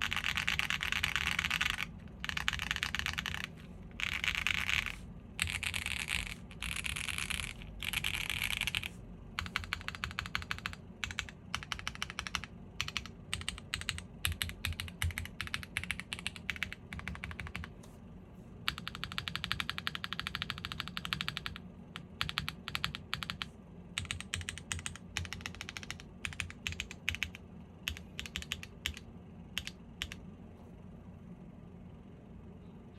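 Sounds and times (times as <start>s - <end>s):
mechanical keyboard typing: 0.0s - 17.8s, 18.7s - 30.2s.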